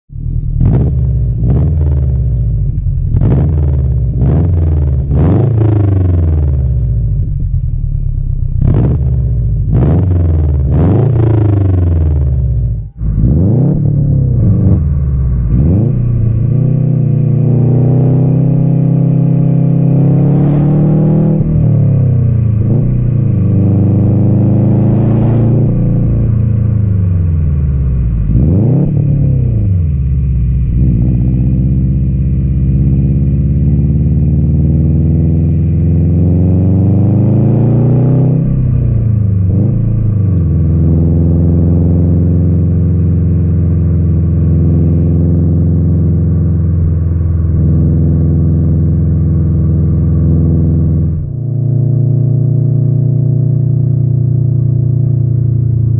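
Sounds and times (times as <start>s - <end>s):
car engine accelerating hard: 0.1s - 55.9s.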